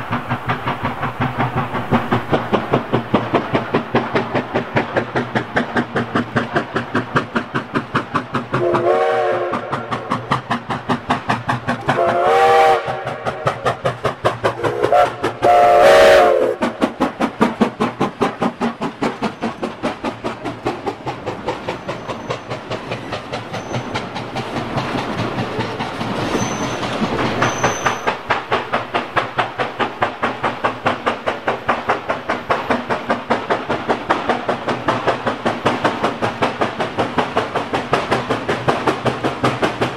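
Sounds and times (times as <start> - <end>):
steam locomotive exhaust chuffing: 0.0 - 39.9.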